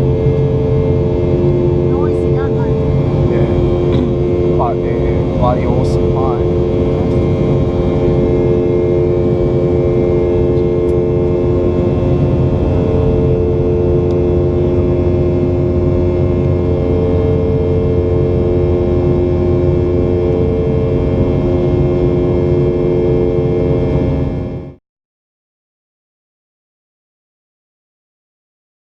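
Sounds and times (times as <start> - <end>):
jet engine rush and rumble: 0.0 - 24.8
steady humming tones: 0.0 - 24.8.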